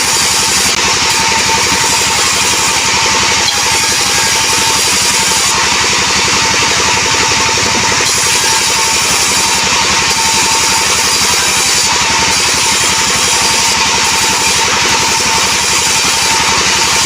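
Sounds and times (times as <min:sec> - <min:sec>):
band saw cutting log: 0:00.0 - 0:17.0
engine pulsing: 0:00.0 - 0:17.0.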